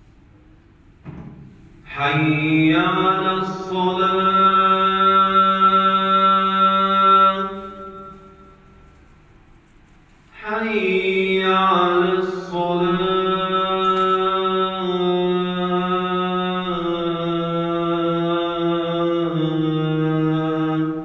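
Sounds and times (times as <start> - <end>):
man chanting in held notes: 1.9 - 8.6, 10.4 - 21.0.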